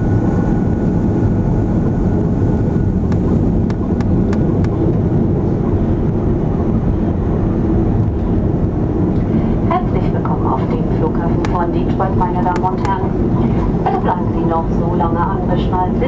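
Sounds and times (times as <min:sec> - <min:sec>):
engines and wheels rumbling: 0:00.0 - 0:16.0.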